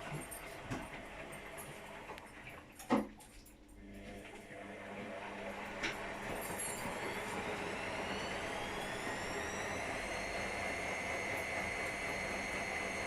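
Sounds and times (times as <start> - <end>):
washing machine drum motor whine: 0.0 - 2.8, 3.8 - 13.0.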